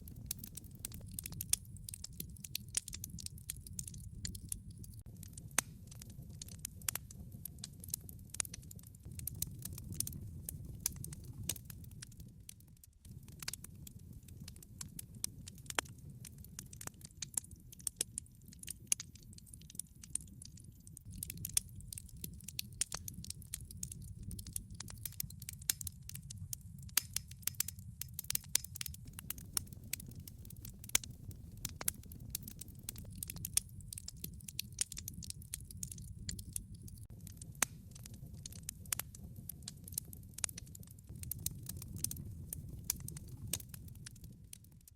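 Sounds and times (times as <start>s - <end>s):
low rumble of flames: 0.0s - 44.9s
wood crackling and popping: 0.0s - 44.9s.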